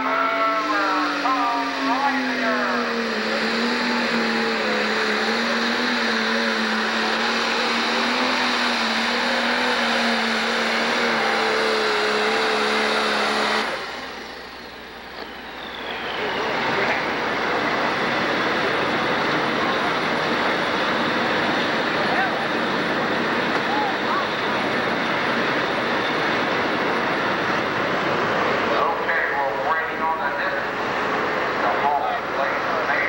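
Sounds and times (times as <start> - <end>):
pulling tractor engine drone: 0.0 - 33.0.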